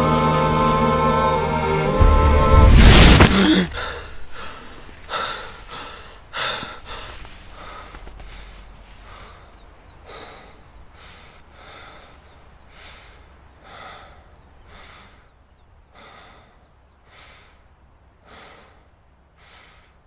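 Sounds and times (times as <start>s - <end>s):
person breathing heavily: 3.0s - 15.3s, 15.9s - 20.0s.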